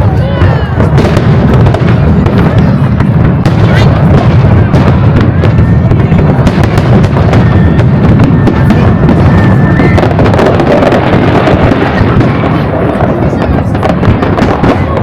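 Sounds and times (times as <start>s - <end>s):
firework booms: 0.0s - 15.0s
firework crackling: 0.0s - 15.0s
high firework whistle: 0.0s - 15.0s.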